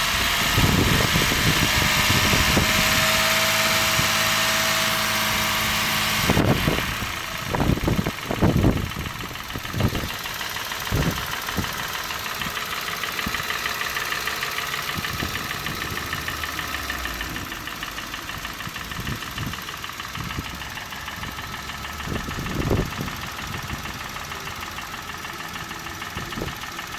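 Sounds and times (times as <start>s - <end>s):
engine idling with ticking knock: 0.0s - 26.9s.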